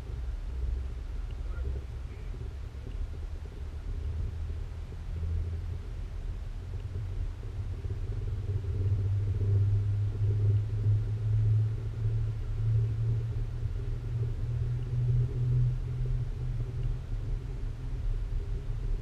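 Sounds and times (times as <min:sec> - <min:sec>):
cable car cabin rumble: 0:00.0 - 0:19.0.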